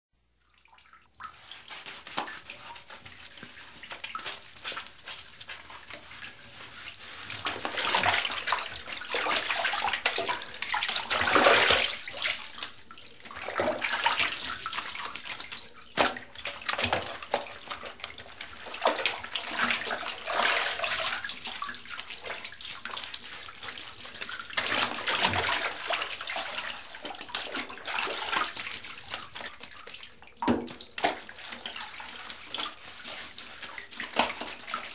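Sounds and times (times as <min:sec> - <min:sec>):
bath water splashing: 0:00.5 - 0:34.9.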